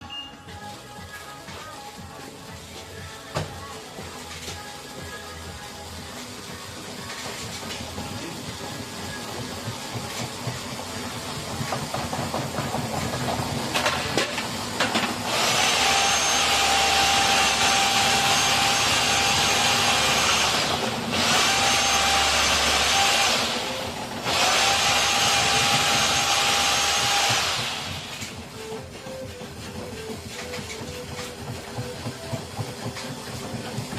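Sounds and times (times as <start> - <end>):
washing machine scraping paper: 0.1 - 33.9.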